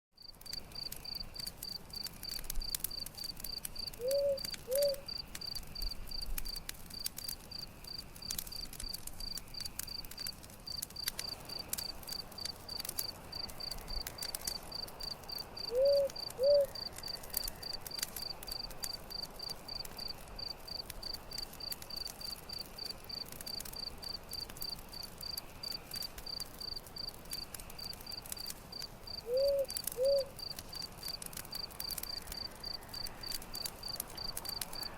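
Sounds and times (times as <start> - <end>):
campfire crackling: 0.2 - 34.9
cricket chirping: 0.2 - 34.9.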